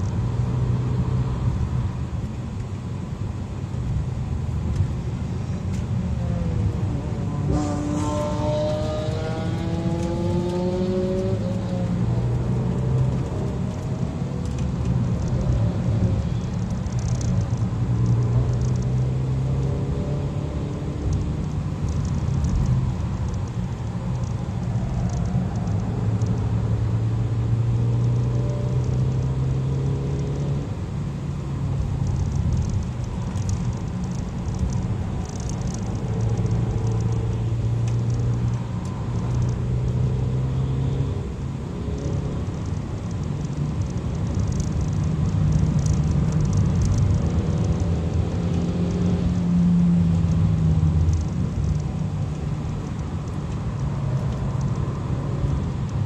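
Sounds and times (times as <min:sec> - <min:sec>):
car engine droning: 0:00.0 - 0:56.0
tyre and road noise: 0:00.0 - 0:56.0.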